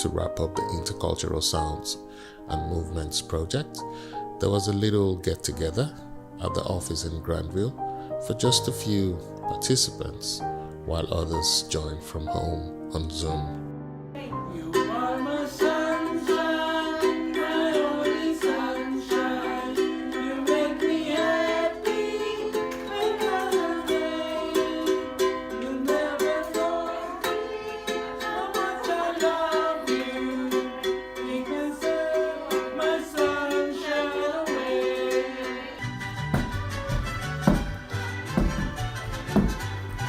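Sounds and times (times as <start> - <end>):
plucked strings: 0.0 - 40.0.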